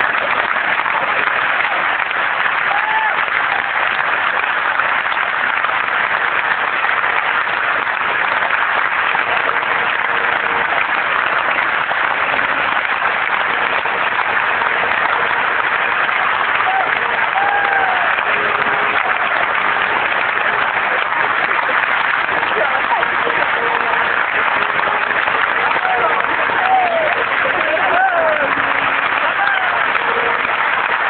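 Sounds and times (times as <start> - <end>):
large audience applauding: 0.0 - 31.0.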